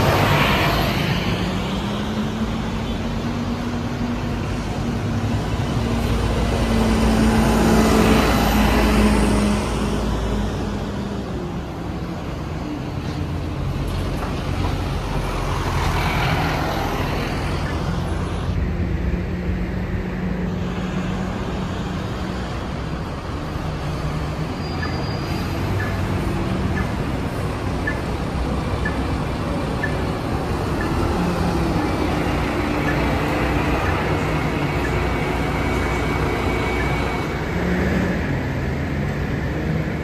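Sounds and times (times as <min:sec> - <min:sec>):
buses driving past: 0:00.0 - 0:40.0.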